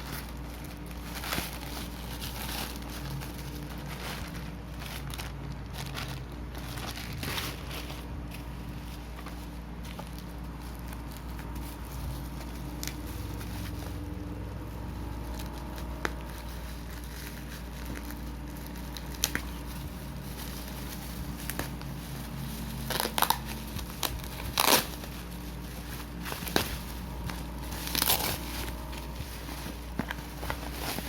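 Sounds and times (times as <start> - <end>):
packaging crinkling and rustling: 0.0 - 31.0
steady low hum: 0.0 - 31.0.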